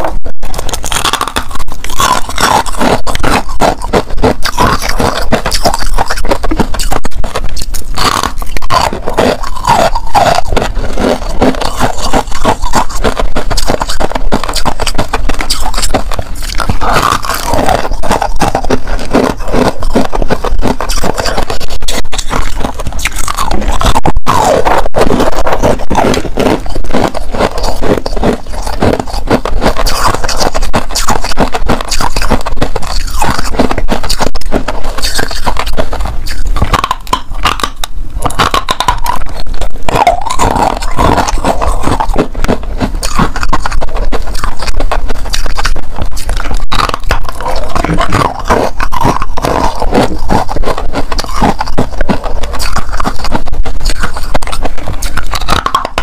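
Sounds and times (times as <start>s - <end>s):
person crunching ice: 0.0s - 56.0s.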